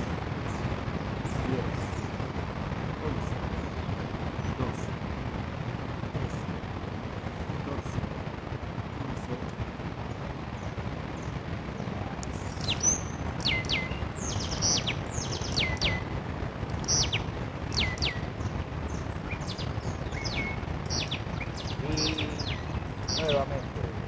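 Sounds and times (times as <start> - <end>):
birds chirping: 0.0 - 24.0
steady low rumble: 0.0 - 24.0.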